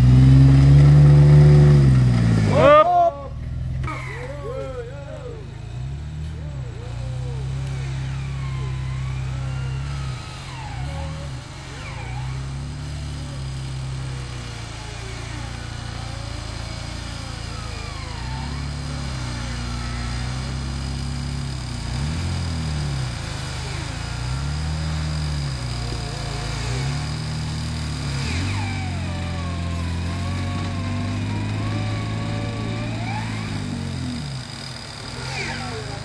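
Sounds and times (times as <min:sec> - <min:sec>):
engine revving: 0:00.0 - 0:36.0
wavering whine: 0:00.0 - 0:36.0.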